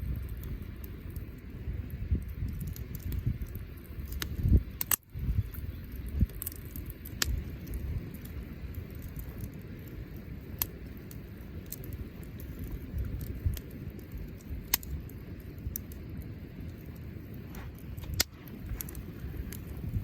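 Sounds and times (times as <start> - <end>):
bonfire pops and crackles: 0.0 - 20.0
low fire rumble: 0.0 - 20.0.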